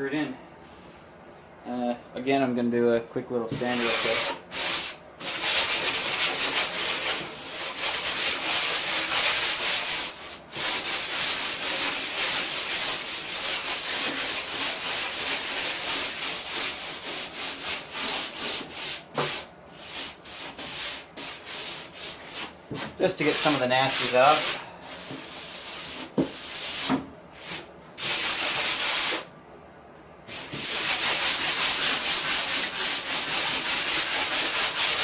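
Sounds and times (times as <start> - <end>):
sandpaper rubbing on plywood: 3.5 - 29.3, 30.3 - 35.0.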